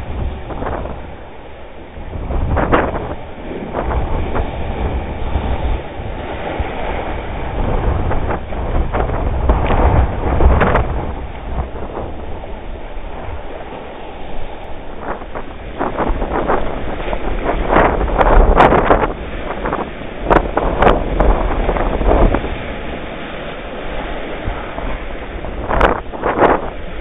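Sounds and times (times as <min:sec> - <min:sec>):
surf breaking against rocks: 0:00.0 - 0:27.0
whitewater rushing: 0:00.0 - 0:27.0
wind rumble on microphone: 0:00.0 - 0:27.0.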